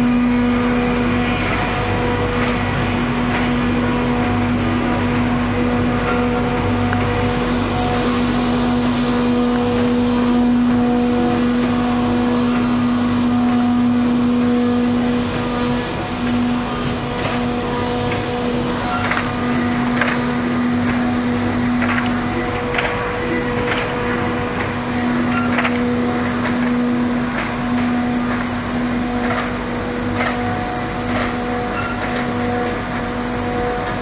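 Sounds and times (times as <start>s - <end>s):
machine drone with hum: 0.0s - 34.0s.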